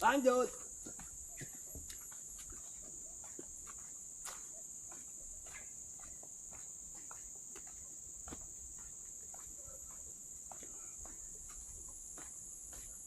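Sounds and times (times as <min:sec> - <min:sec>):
insects droning: 0:00.0 - 0:13.0
soft footsteps on wet trail: 0:00.0 - 0:13.0.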